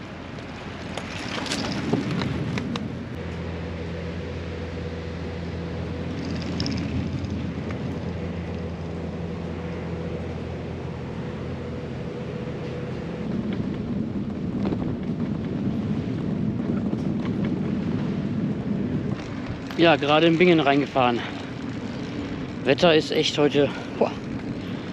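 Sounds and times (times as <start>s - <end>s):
bike rolling noise: 0.0s - 24.9s
low engine drone: 0.0s - 24.9s
wind rumble on microphone: 0.0s - 24.9s.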